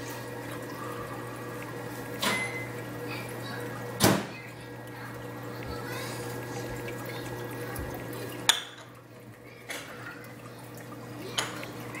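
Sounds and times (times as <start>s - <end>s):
aquarium water bubbling: 0.0s - 12.0s.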